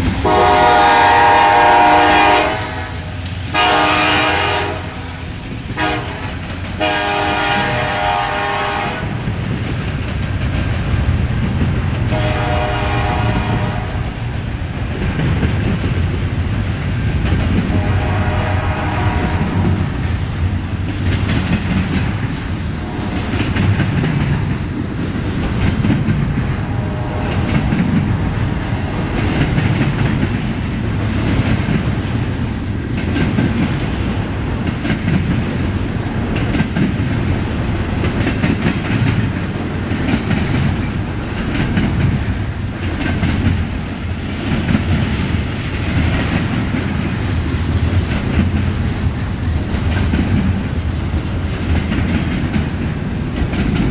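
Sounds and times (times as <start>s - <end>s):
steel wheels rumbling on rail: 0.0s - 53.9s
rhythmic clickety-clack: 5.2s - 6.8s, 9.2s - 12.3s, 13.7s - 17.8s, 18.7s - 26.6s, 27.2s - 53.9s.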